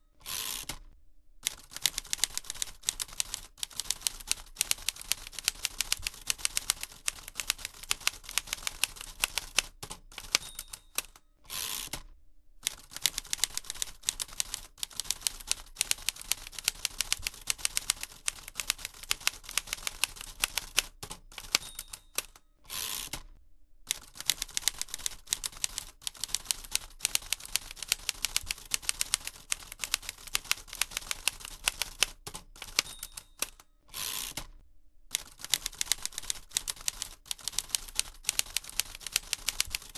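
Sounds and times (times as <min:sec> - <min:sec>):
typewriter keys clacking: 0:01.5 - 0:11.2, 0:12.7 - 0:22.4, 0:23.9 - 0:33.6, 0:35.2 - 0:39.9.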